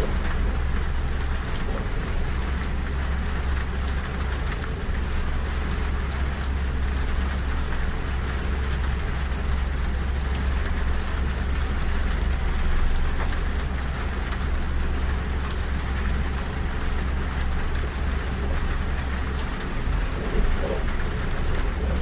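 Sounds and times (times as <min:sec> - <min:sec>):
moving train rumble: 0:00.0 - 0:22.0
rain on train window and roof: 0:00.0 - 0:22.0
raindrop ticks: 0:00.0 - 0:22.0.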